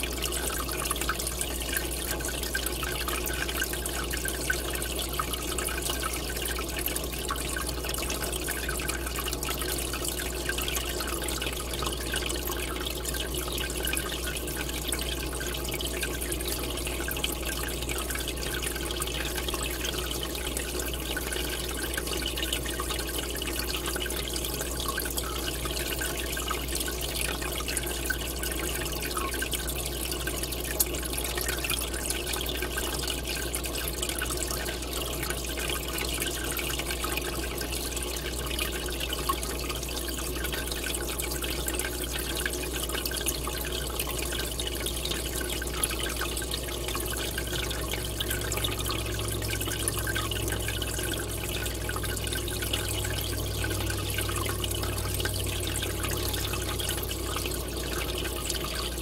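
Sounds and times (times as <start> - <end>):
aquarium water bubbling: 0.0 - 59.0.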